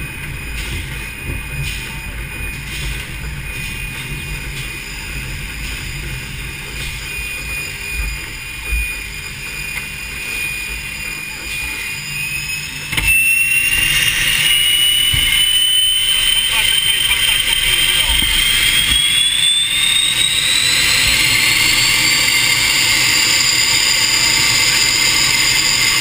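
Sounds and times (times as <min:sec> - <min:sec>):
jet engine whine: 0:00.0 - 0:26.0.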